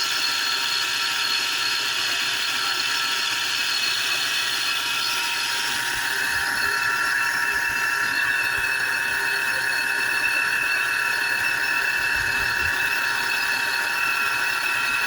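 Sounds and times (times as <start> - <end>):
whining tones: 0.0 - 15.0.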